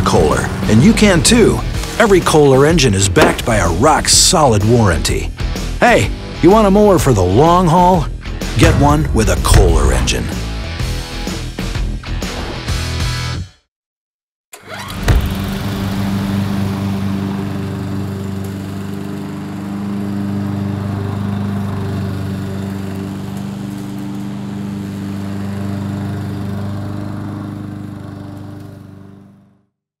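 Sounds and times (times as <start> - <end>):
lawn mower engine running: 0.0 - 11.1, 14.6 - 29.6.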